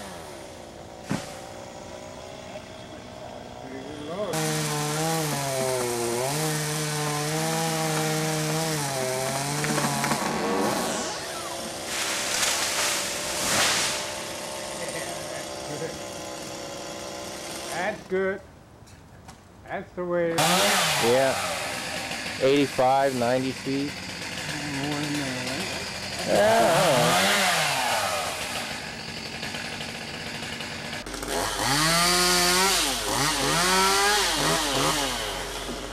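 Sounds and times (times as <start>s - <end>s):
chainsaw cutting wood: 0.0s - 18.2s, 20.4s - 35.9s.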